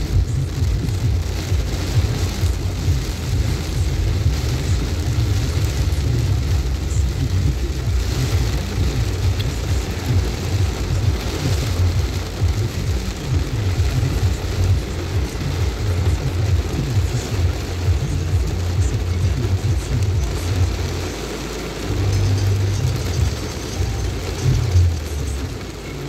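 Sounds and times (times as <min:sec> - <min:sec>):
strong low rumble: 0:00.0 - 0:21.1
heavy rain downpour: 0:00.0 - 0:26.0.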